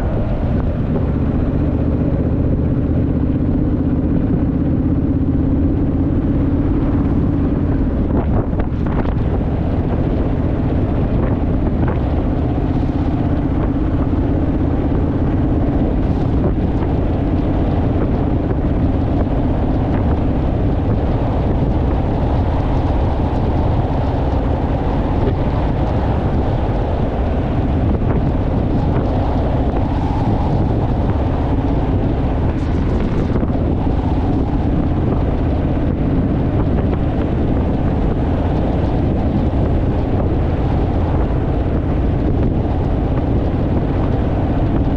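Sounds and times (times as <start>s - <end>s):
motorcycle engine cruising: 0.0s - 44.9s
wind rush on microphone: 0.0s - 44.9s.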